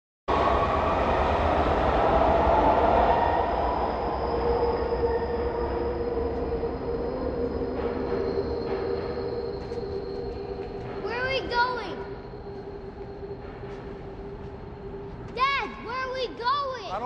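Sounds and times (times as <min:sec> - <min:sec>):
steady high whine: 0:00.3 - 0:17.0
subway train running: 0:00.3 - 0:17.0.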